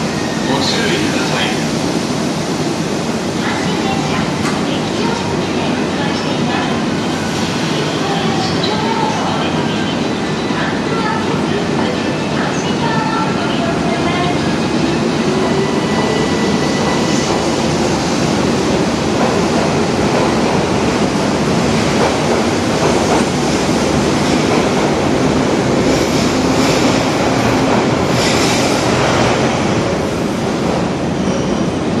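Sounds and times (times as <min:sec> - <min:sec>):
electric train rumbling past: 0:00.0 - 0:32.0.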